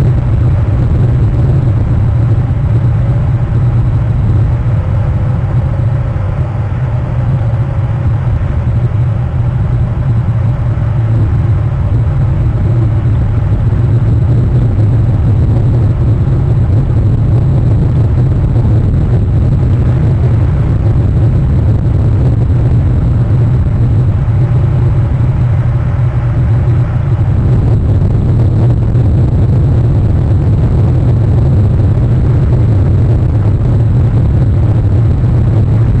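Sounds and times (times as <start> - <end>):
rain and wind rumble: 0.0 - 36.0.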